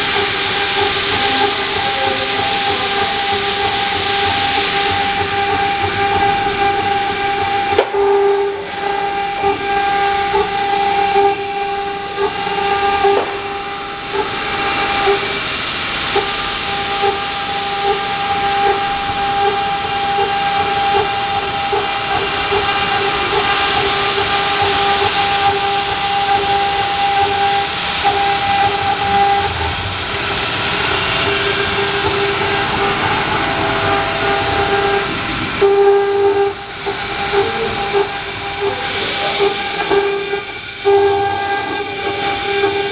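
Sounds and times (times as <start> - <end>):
spindle whine: 0.0 - 42.9.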